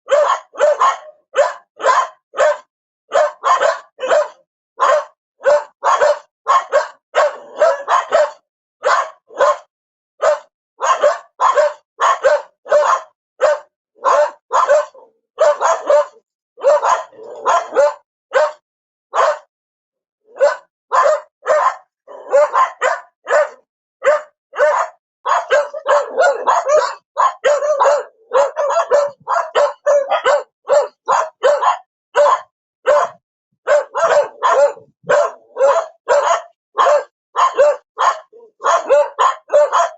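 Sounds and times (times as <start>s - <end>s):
dog barking: 0.0s - 19.5s, 20.3s - 39.9s.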